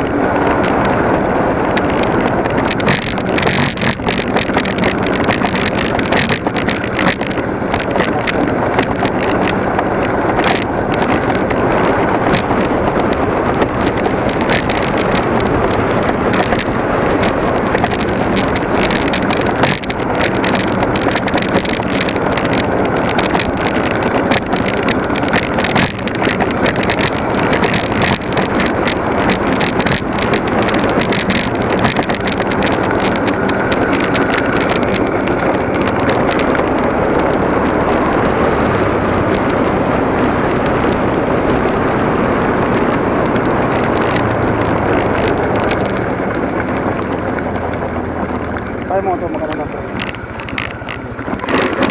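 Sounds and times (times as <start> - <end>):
motorcycle engine drone: 0.0 - 51.9
wind buffeting microphone: 0.0 - 51.9.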